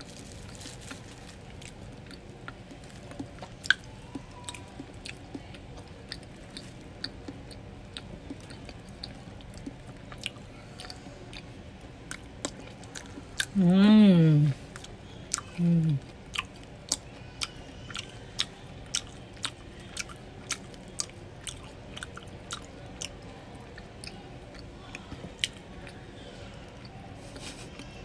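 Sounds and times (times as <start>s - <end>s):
person chewing food: 0.0s - 13.7s, 14.6s - 28.0s.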